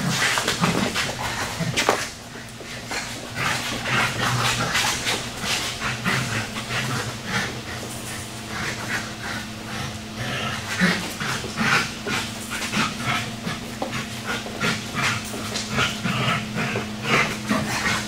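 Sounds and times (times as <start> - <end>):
dog panting hard: 0.0 - 18.0
steady low hum: 0.0 - 18.0.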